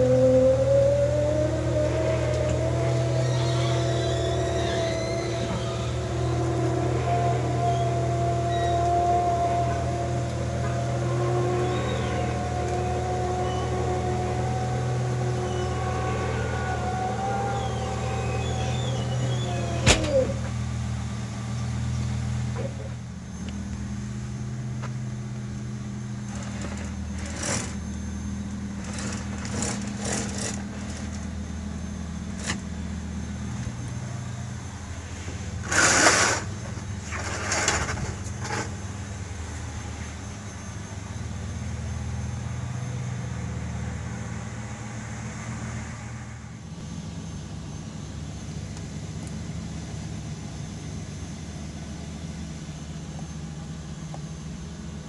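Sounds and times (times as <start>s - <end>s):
engine humming: 0.0s - 55.0s
high whine falling in pitch: 0.0s - 55.0s.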